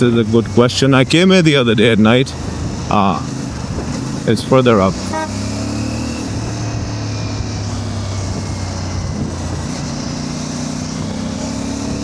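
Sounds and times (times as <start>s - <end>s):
motorcycle engine running: 0.0s - 12.0s
road and air noise: 0.0s - 12.0s.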